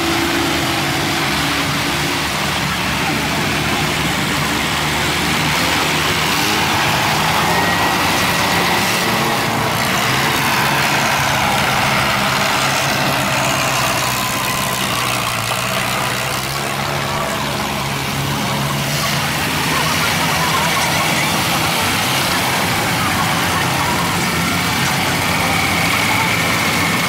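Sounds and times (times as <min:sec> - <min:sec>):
tractor engines passing: 0:00.0 - 0:27.0.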